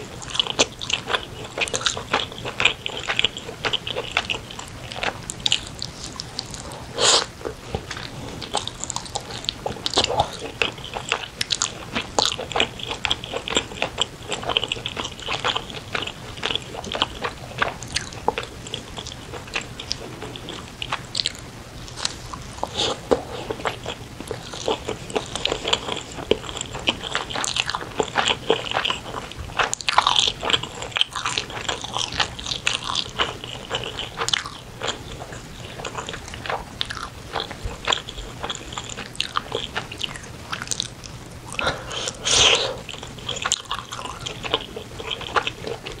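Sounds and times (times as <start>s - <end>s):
chewing with wet mouth clicks: 0.1s - 42.2s, 42.8s - 46.0s.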